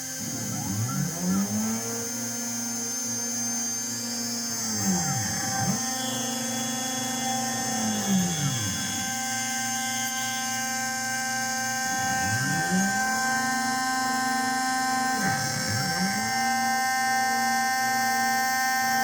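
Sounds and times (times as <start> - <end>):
milling machine whine: 0.0 - 19.0
motor tone sweeping down and up: 0.0 - 19.0.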